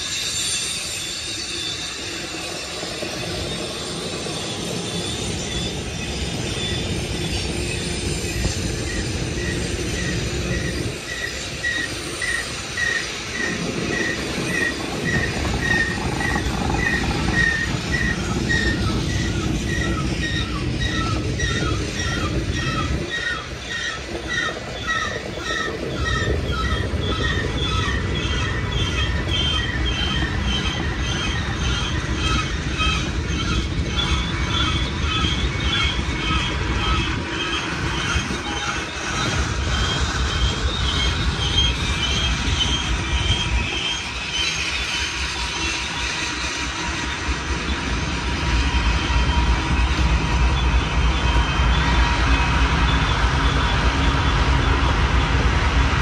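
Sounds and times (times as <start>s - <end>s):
high-pitched wheel squeals: 0.0s - 55.5s
freight train wheels rumbling: 0.0s - 56.0s.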